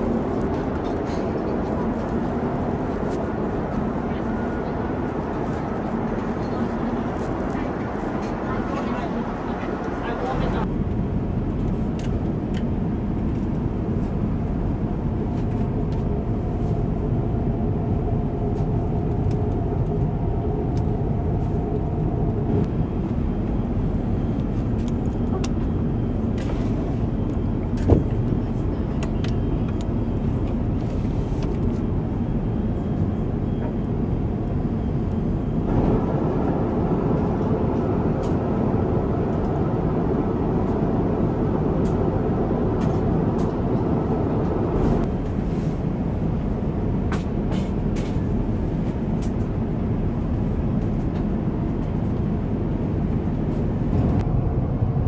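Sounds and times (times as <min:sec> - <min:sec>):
vehicle cabin rumble: 0:00.0 - 0:34.0, 0:34.8 - 0:55.0.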